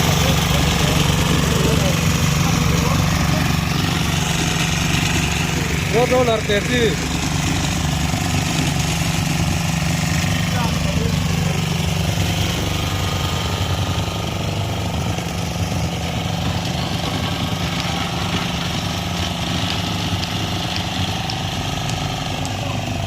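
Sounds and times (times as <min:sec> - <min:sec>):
road roller engine running: 0:00.0 - 0:23.0.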